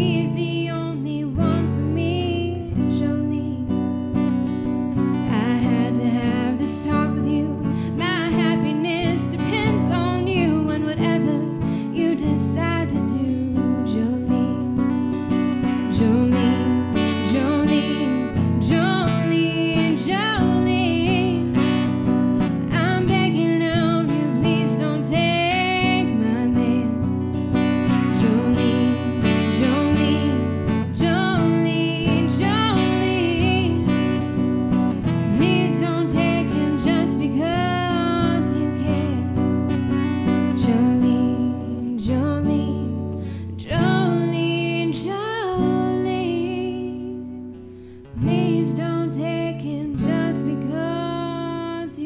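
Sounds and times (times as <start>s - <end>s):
guitar music: 0.0s - 52.0s.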